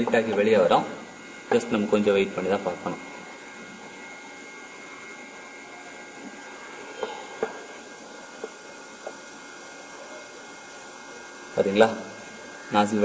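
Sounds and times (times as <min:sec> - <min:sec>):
printer fan and motor whir: 0:00.0 - 0:13.0.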